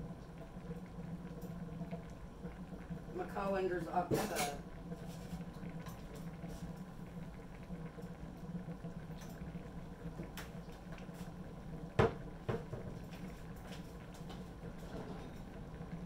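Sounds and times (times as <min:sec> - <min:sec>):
cheese sauce simmering: 0:00.0 - 0:16.0
steady low hum: 0:00.0 - 0:16.0.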